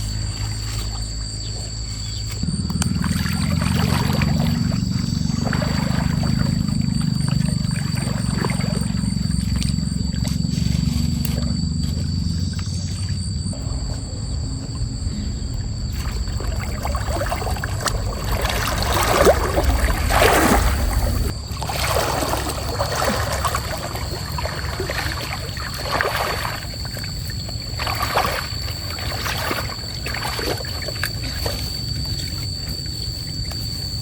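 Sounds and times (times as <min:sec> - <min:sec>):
water sloshing and splashing: 0:00.0 - 0:14.0, 0:14.6 - 0:34.0.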